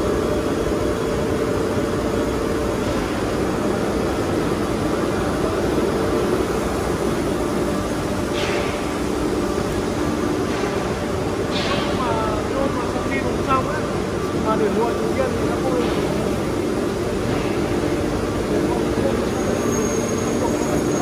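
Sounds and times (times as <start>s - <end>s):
factory machinery din: 0.0s - 21.0s.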